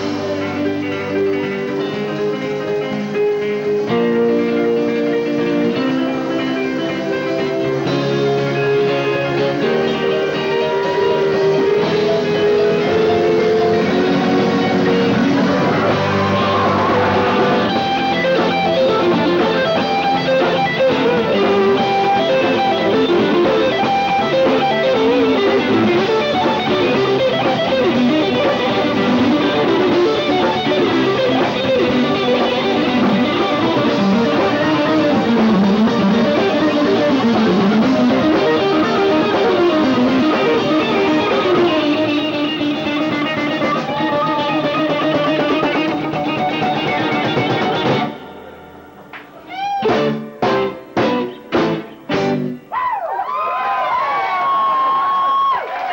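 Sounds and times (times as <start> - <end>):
live rock band playing: 0.0 - 52.8
electric guitar line with bends: 0.0 - 55.9.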